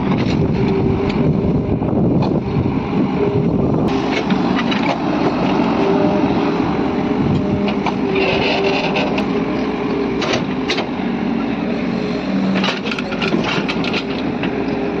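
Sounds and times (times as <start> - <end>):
excavator engine and hydraulics: 0.0 - 15.0.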